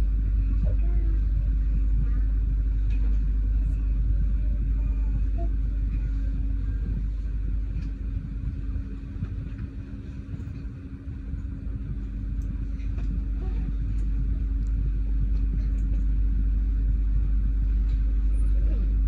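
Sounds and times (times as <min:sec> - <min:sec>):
vehicle rumbling low: 0:00.0 - 0:19.0.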